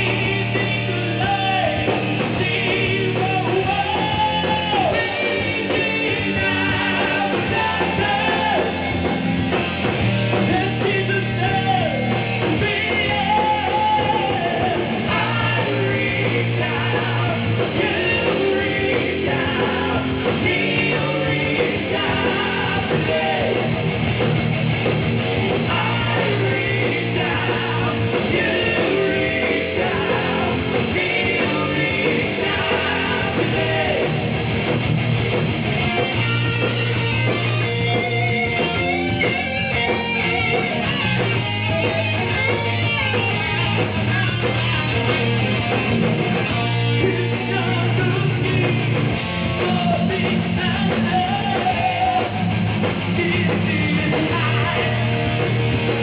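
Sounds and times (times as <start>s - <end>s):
heavy metal band playing: 0.0s - 56.0s.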